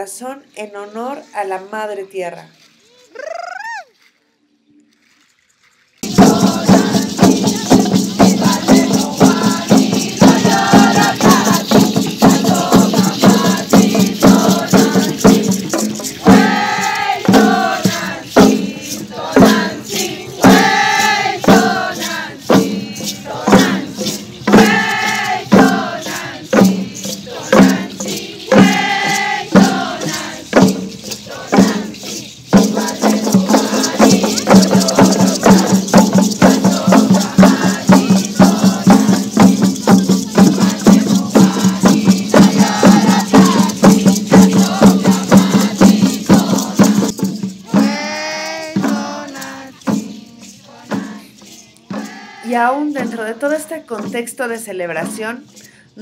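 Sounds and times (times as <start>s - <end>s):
hand rattles shaken: 4.9s - 56.0s
women singing a chant: 6.0s - 55.4s
hand drums: 6.0s - 56.0s.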